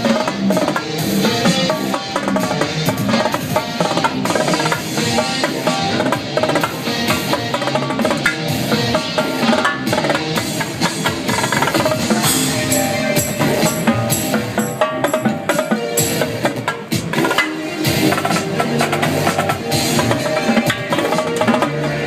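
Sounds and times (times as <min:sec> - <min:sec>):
electronic dance music: 0:00.0 - 0:22.0
live drums and percussion: 0:00.0 - 0:22.0.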